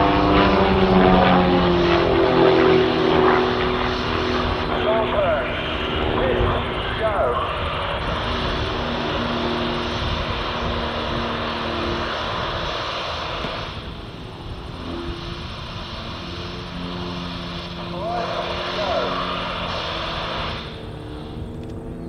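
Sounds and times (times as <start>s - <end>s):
airplane engines droning: 0.0s - 22.0s.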